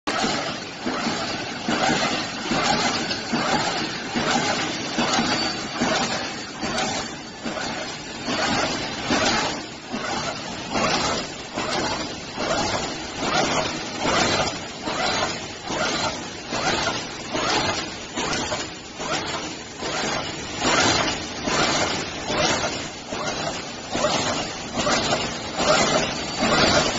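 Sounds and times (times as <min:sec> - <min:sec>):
welding machine cycling rhythmically: 0:00.1 - 0:26.9.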